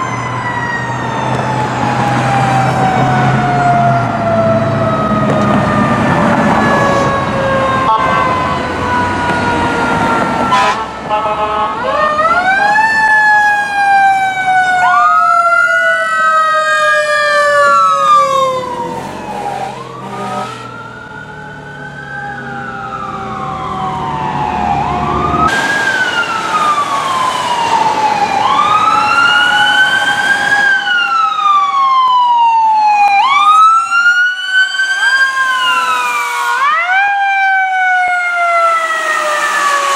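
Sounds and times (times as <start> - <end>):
fast siren yelp: 0.0 - 10.9, 11.7 - 39.9
emergency vehicle sirens wailing: 0.0 - 39.9.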